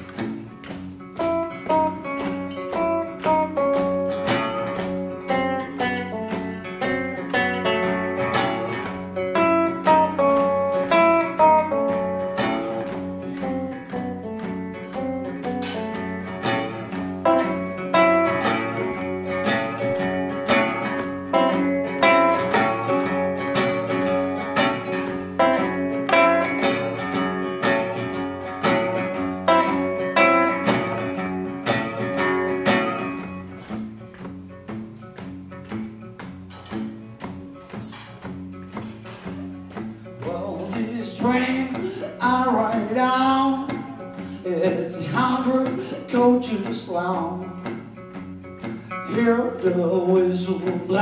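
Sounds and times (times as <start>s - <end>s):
blues guitar playing: 0.0s - 51.0s.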